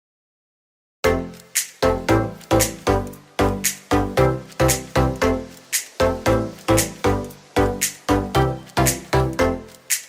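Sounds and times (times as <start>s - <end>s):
electronic music with kick drum: 1.0s - 10.0s.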